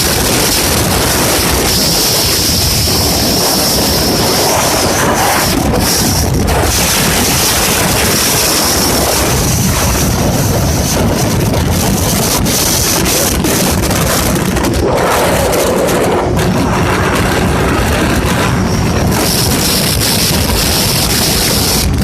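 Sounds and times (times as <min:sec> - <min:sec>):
motorcycle engine: 0:00.0 - 0:22.0
wind rushing over microphone: 0:00.0 - 0:22.0.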